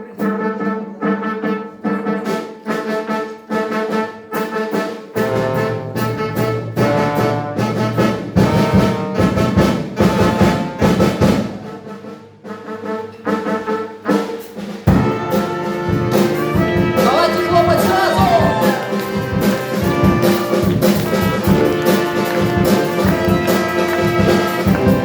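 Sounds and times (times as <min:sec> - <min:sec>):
brass instrumental music: 0:00.0 - 0:25.0.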